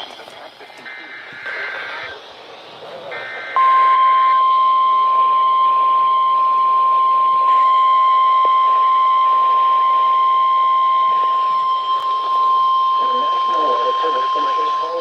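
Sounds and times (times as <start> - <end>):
radio hiss: 0.0 - 15.0
steady alarm tone: 0.8 - 15.0.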